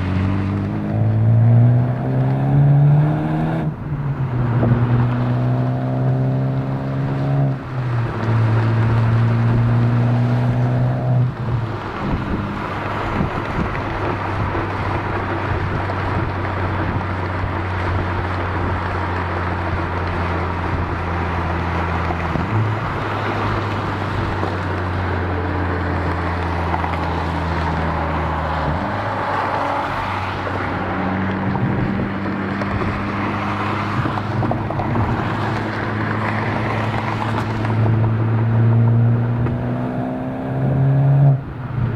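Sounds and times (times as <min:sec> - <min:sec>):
car exhaust at low revs: 0:00.0 - 0:41.9.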